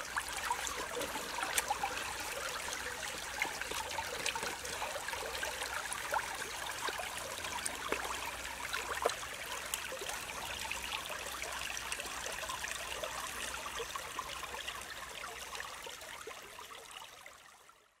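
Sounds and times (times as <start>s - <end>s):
stream water trickling: 0.0s - 18.0s.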